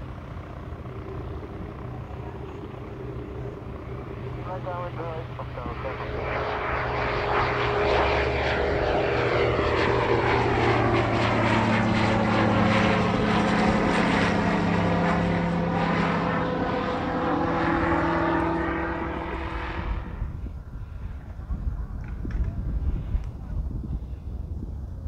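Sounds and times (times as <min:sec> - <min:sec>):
light aircraft engine droning: 0:00.0 - 0:25.0.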